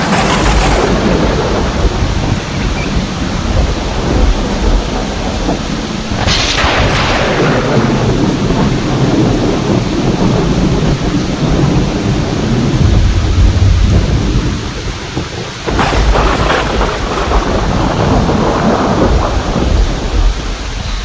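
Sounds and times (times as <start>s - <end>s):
sharp thunderclap: 0.0s - 20.8s
heavy rain: 0.0s - 21.0s
thunder rumbling: 0.0s - 21.0s.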